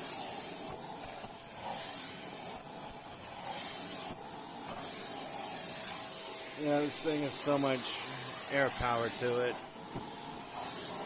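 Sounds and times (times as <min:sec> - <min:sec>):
vacuum cleaner sucking air: 0:00.0 - 0:11.0.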